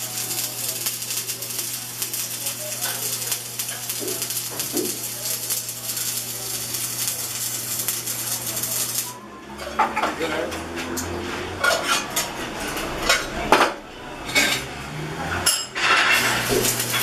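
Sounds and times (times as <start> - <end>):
welding arc crackling: 0.0 - 9.6, 12.2 - 17.0.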